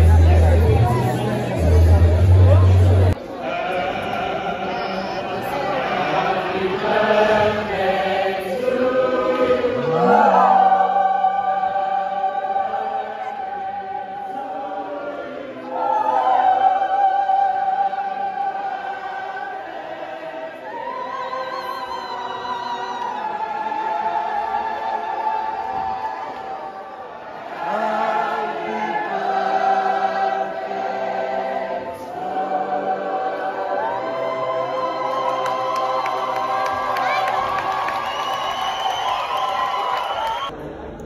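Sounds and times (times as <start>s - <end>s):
mixed choir singing: 0.0s - 40.8s.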